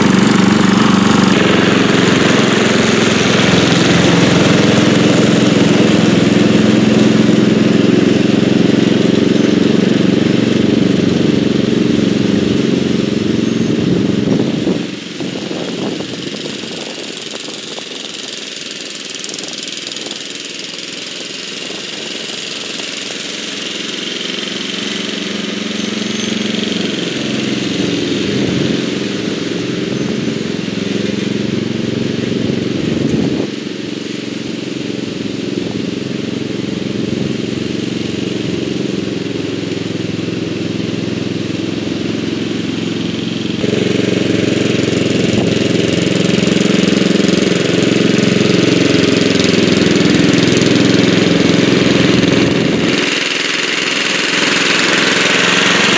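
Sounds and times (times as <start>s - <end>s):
lawn tractor engine running: 0.0s - 55.9s.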